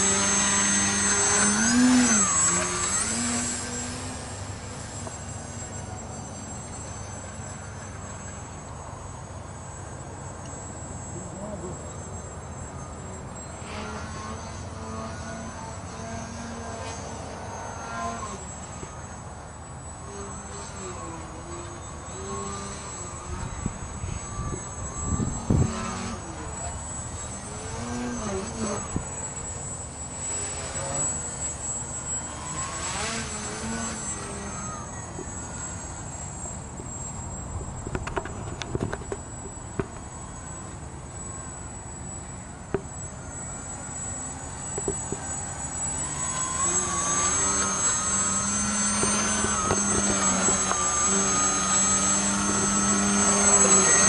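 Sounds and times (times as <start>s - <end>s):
model plane electric motor buzzing: 0.0s - 54.0s.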